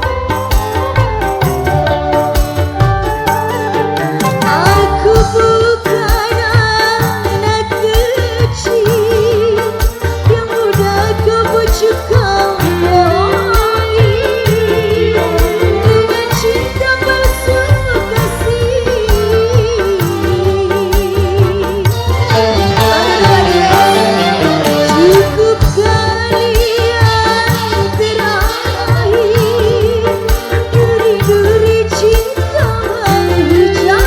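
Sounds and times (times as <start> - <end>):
hand drum and bass beat: 0.0 - 34.0
wavering melodic lead: 0.0 - 34.0.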